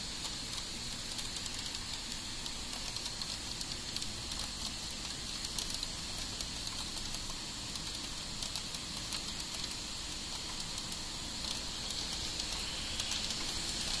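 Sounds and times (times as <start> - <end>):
crackling patter of raindrops: 0.0 - 14.0
heavy rain hiss: 0.0 - 14.0.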